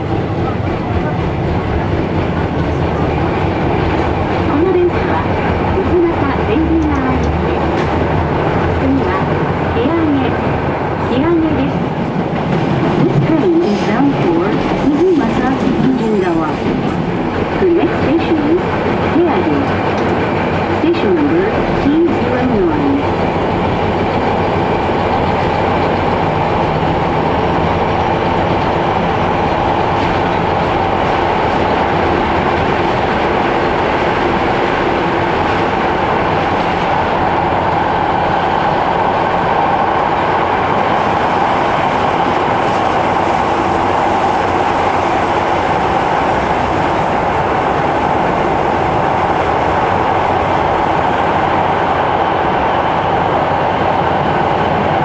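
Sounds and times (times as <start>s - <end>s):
train running in tunnel: 0.0s - 55.0s.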